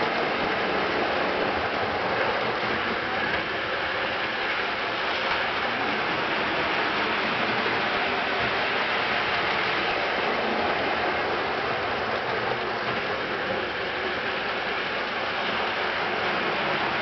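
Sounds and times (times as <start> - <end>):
model trolley running on track: 0.0 - 17.0.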